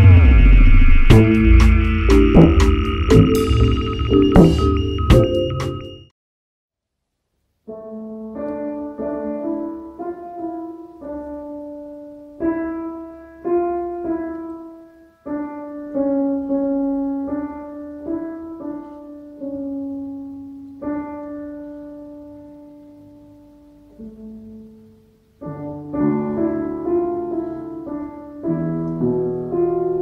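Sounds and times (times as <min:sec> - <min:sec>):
slow piano notes: 0:00.0 - 0:06.1, 0:07.6 - 0:30.0.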